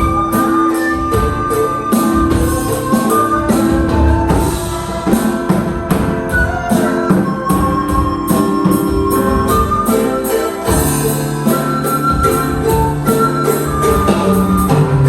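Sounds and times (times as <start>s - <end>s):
drums beating: 0.0s - 15.0s
held melody notes: 0.0s - 15.0s.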